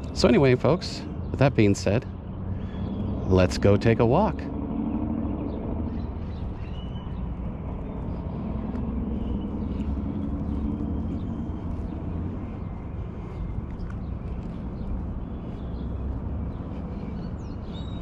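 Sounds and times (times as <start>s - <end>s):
distant engine rumble: 0.0s - 18.0s.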